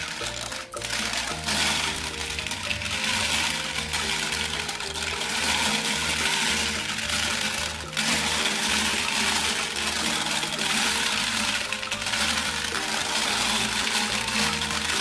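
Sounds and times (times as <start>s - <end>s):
background music with bass line: 0.0s - 15.0s
marbles clattering in plastic drum: 0.0s - 15.0s
marbles rolling down plastic chute: 0.0s - 15.0s.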